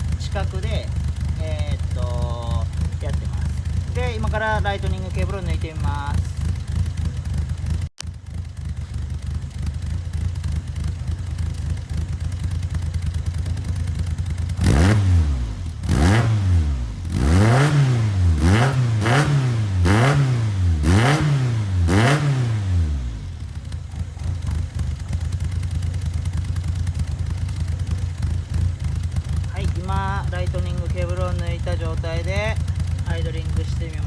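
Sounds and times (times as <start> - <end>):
car engine idling: 0.0 - 34.0
engine revving: 0.0 - 34.0.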